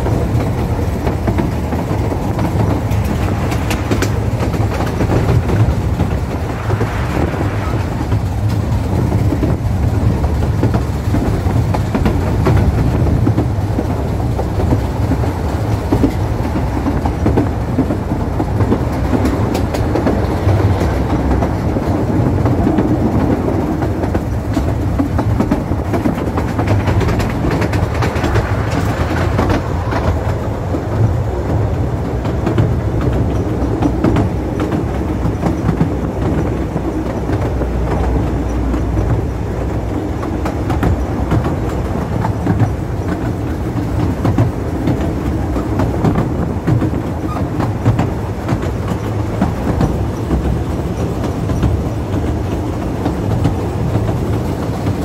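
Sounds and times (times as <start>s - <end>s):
train running rumble: 0.0s - 55.0s
wheels clicking over rail joints: 0.0s - 55.0s.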